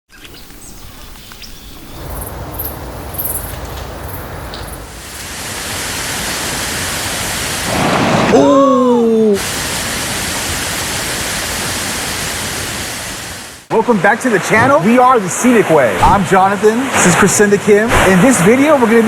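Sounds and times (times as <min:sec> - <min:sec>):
rushing water: 0:00.4 - 0:19.0.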